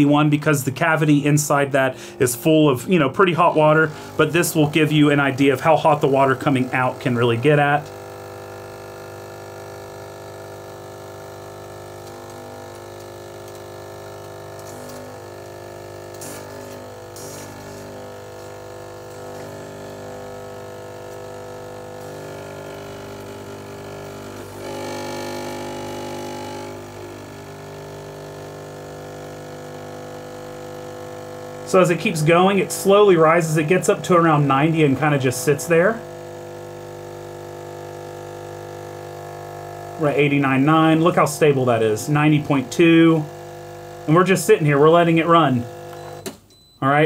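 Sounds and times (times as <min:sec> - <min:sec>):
espresso machine pump humming: 0:00.0 - 0:46.5.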